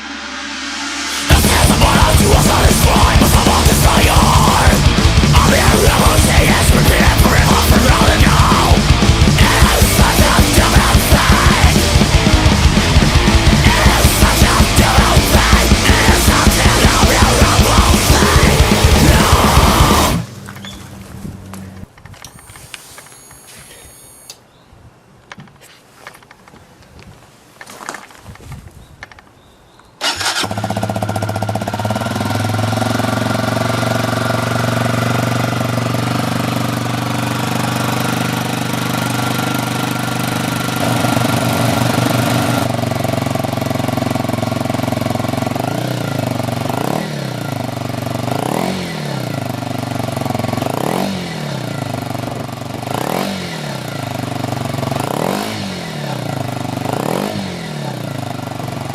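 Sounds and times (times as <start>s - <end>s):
motorcycle engine revving: 0.0s - 24.2s, 30.0s - 58.9s
motorcycle engine idling: 1.3s - 21.9s, 30.0s - 58.9s.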